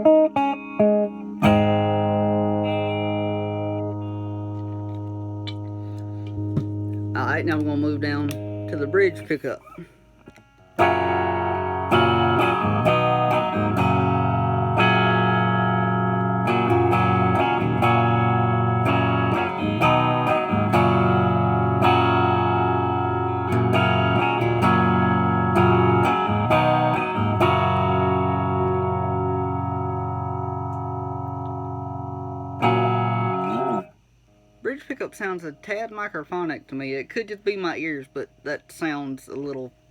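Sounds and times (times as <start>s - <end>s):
electric guitar chords strummed: 0.0s - 36.3s.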